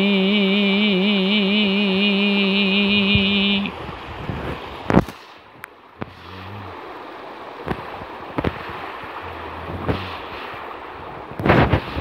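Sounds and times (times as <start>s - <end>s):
stream rushing over rocks: 1.6s - 12.0s.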